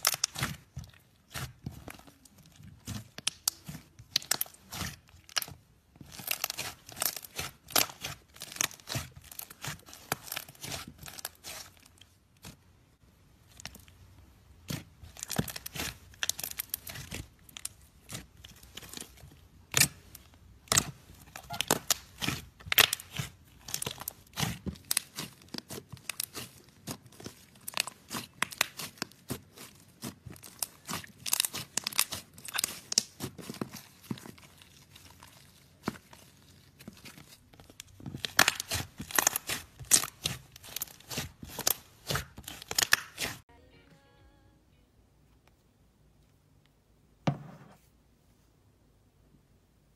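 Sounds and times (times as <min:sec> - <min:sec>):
slime crackling and popping: 0:00.0 - 0:12.6, 0:13.4 - 0:43.5.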